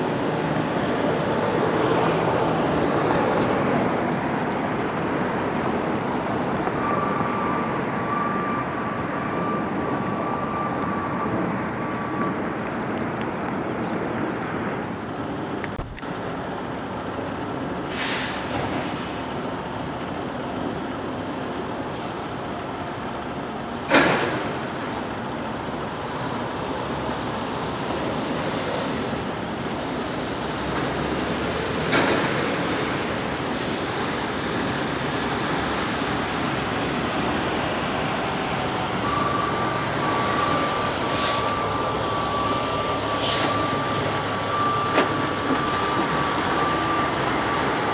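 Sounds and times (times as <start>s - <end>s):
garbage truck running: 0.0s - 47.9s.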